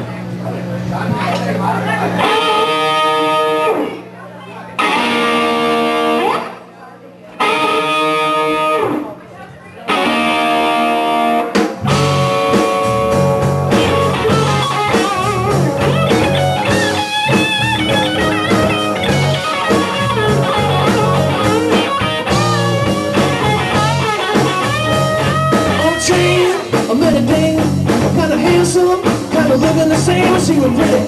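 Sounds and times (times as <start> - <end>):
rock band playing: 1.8 - 4.1, 4.8 - 9.2, 9.8 - 31.0
electric guitar and bass riff: 1.8 - 6.7, 7.3 - 9.2, 9.9 - 31.0
wavering lead guitar: 2.0 - 4.2, 4.8 - 31.0.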